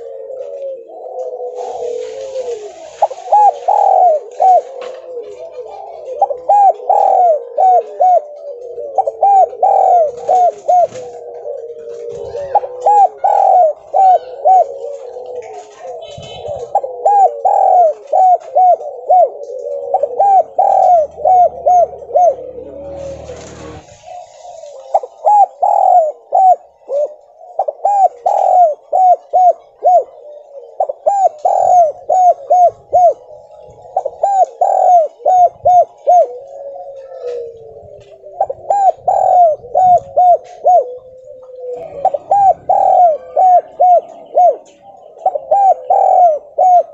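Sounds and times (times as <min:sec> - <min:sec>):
dove cooing: 0:00.0 - 0:46.9.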